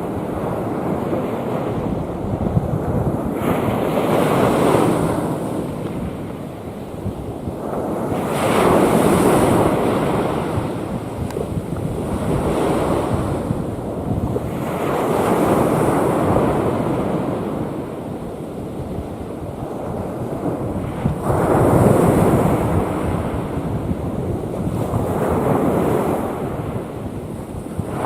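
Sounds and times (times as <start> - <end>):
sea waves breaking: 0.0 - 28.0
wind rumbling on microphone: 0.0 - 28.0.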